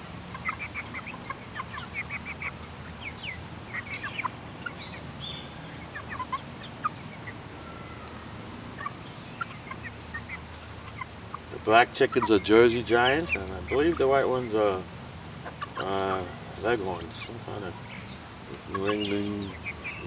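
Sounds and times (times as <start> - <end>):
chicks peeping and chirping: 0.0 - 20.0.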